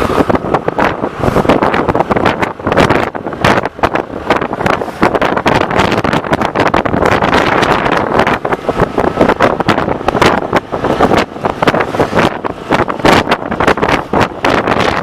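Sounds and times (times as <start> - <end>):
bike road noise: 0.0 - 15.0
wind buffeting microphone: 0.0 - 15.0.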